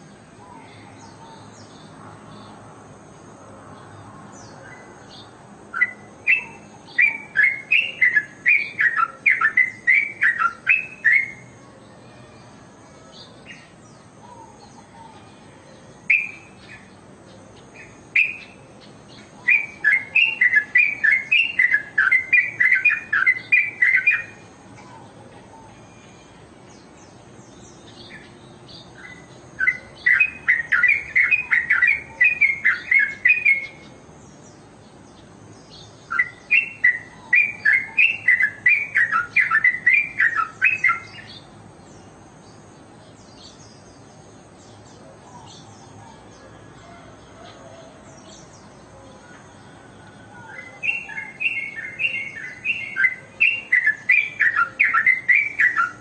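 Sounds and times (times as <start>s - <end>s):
bird singing rapid notes: 4.4s - 11.6s, 13.1s - 46.5s, 47.4s - 56.0s.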